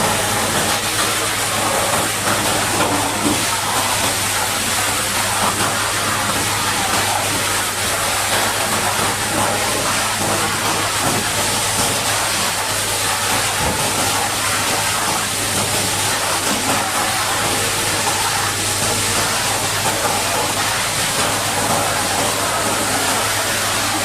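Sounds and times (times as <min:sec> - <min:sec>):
high-pressure water jet spraying: 0:00.0 - 0:24.0.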